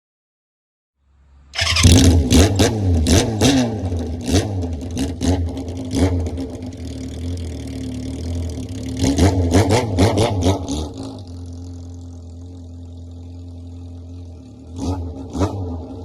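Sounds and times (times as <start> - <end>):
motorcycle engine revving: 1.5 - 16.0.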